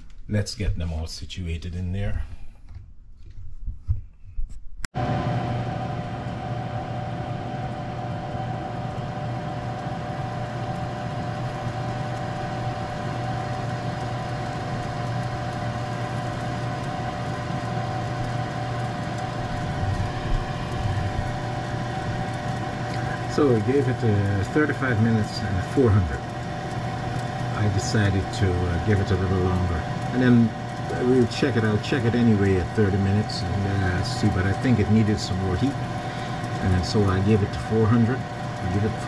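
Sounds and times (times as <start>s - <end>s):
oven fan humming and whining: 0.0s - 39.0s.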